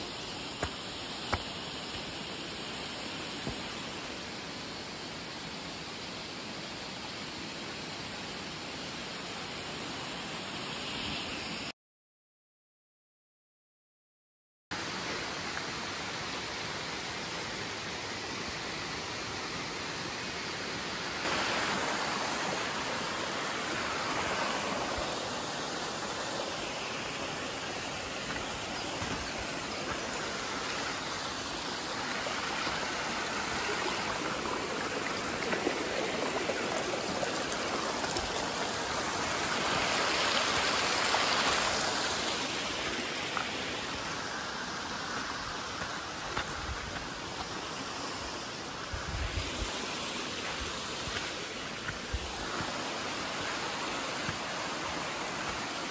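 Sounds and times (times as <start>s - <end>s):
mountain stream rushing: 0.0s - 11.7s, 14.8s - 55.9s.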